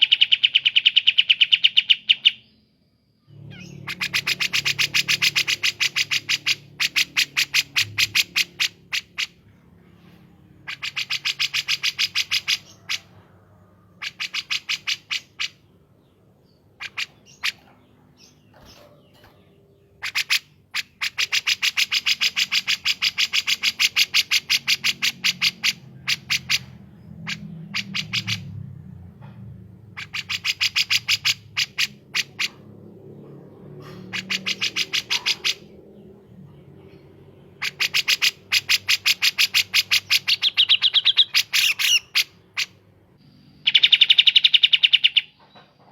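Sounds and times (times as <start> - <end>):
songbirds singing rapid sharp notes: 0.0 - 45.9.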